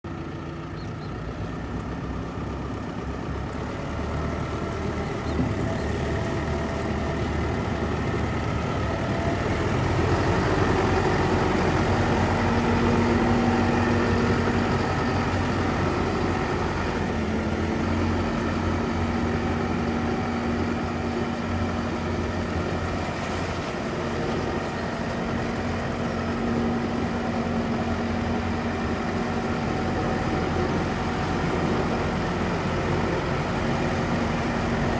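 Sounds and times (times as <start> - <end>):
diesel tractor engine idling: 0.1 - 34.9.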